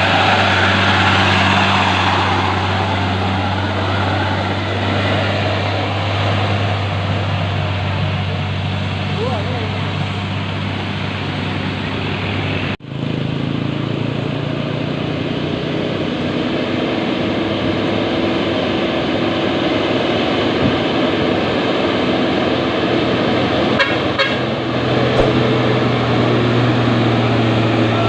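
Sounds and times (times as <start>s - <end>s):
diesel truck engine labouring: 0.0s - 28.0s
road traffic: 0.0s - 28.0s.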